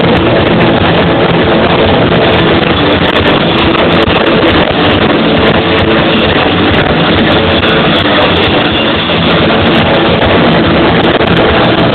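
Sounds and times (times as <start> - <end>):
bass guitar: 0.0 - 11.9
distorted electric guitars: 0.0 - 11.9
drums: 0.0 - 11.9.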